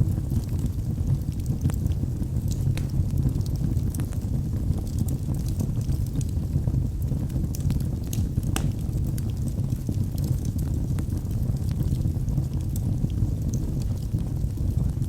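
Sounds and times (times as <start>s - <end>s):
burning logs crackling and popping: 0.0s - 15.0s
low roar of flames: 0.0s - 15.0s.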